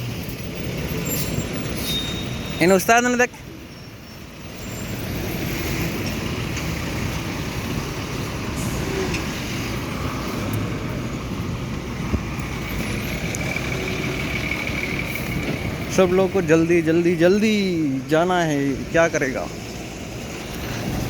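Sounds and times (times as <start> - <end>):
heavy vehicle engines: 0.0 - 21.0
road traffic noise: 0.0 - 21.0.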